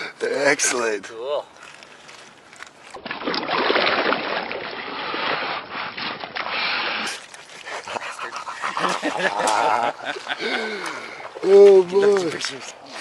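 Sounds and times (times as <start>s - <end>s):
river water splashing: 0.8s - 13.0s.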